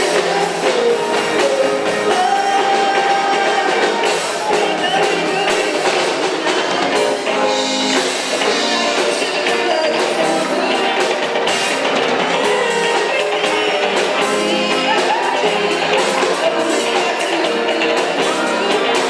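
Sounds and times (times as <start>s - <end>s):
live band playing pop-rock: 0.0s - 19.0s.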